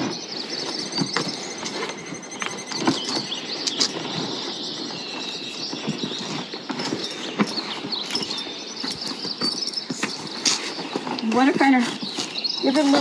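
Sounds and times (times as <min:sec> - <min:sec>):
pack gear knocking and rustling: 0:00.0 - 0:13.0.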